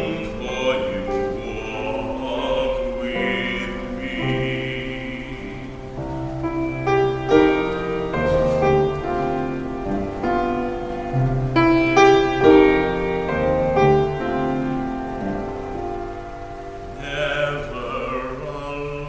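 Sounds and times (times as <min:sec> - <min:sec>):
piano playing a slow hymn: 0:00.0 - 0:19.0.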